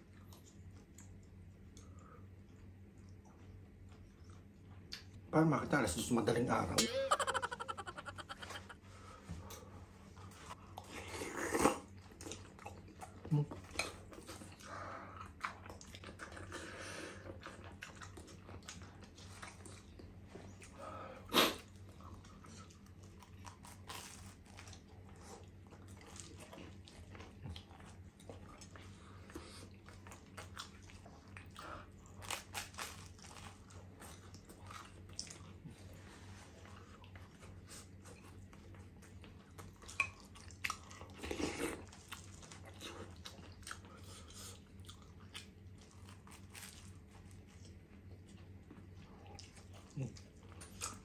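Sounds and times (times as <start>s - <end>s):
chewing crunchy toasted sandwich: 0.0s - 5.3s, 7.1s - 51.0s.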